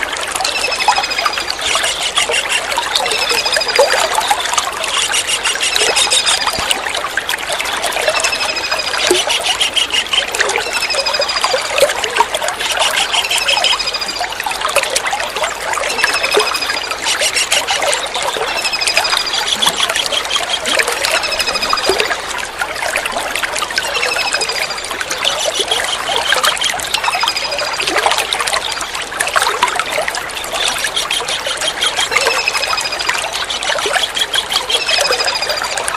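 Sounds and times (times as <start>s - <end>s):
water trickling: 0.0s - 35.9s
bird high trilled calls: 0.5s - 6.8s, 7.6s - 11.7s, 12.5s - 14.6s, 15.9s - 22.2s, 23.7s - 27.8s, 29.7s - 35.9s.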